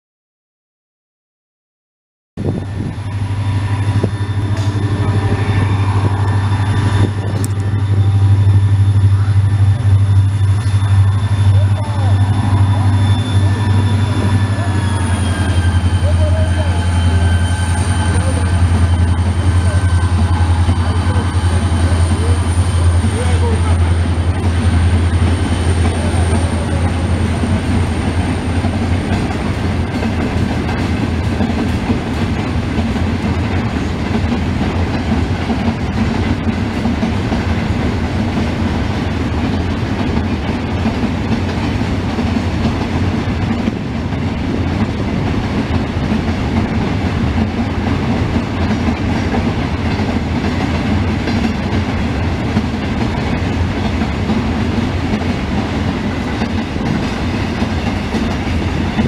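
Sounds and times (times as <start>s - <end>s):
freight train wheels rumbling: 2.4s - 59.0s.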